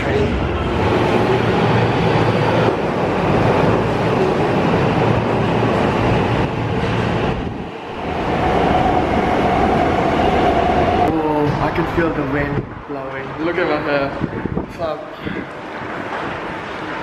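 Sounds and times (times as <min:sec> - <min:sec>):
steady train whine: 0:00.0 - 0:17.0
train rolling past: 0:00.0 - 0:17.0.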